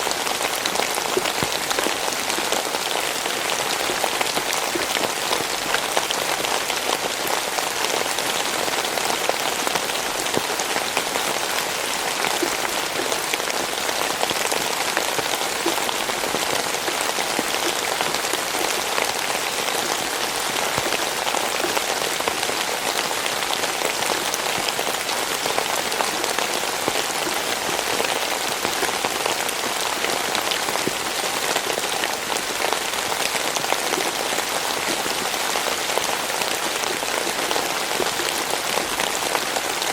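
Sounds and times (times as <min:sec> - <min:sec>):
raindrops pattering on a surface: 0:00.0 - 0:39.9.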